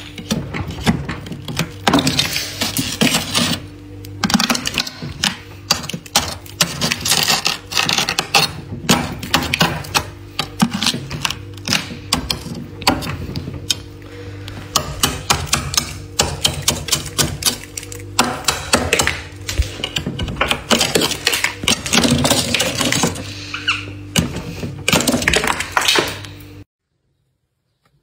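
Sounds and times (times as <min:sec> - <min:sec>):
steady low hum: 0:00.0 - 0:26.7.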